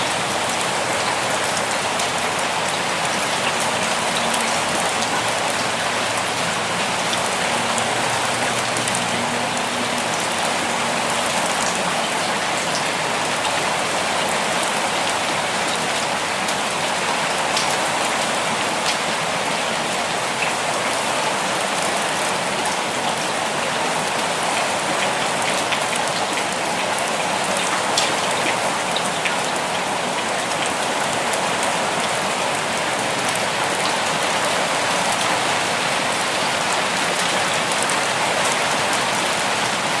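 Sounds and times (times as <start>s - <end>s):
steady rainfall hiss: 0.0s - 40.0s
raindrops ticking on surface: 0.1s - 40.0s.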